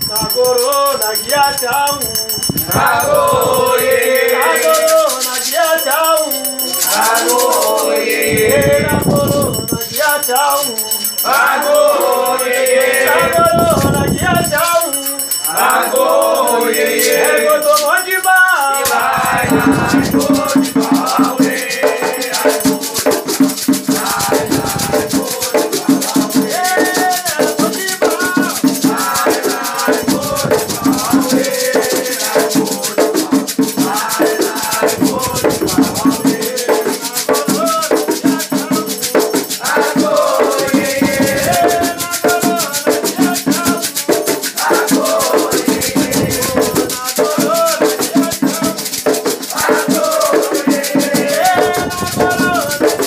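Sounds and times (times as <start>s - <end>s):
drumming: 0.0s - 53.0s
rattles shaken: 0.0s - 53.0s
voices singing chants: 0.0s - 53.0s.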